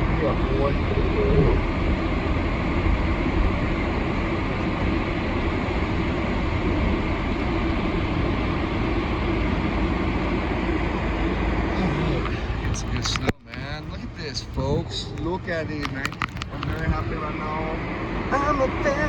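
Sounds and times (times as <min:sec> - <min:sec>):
engine rumble: 0:00.0 - 0:19.0
tyre and road noise on snow: 0:00.0 - 0:19.0.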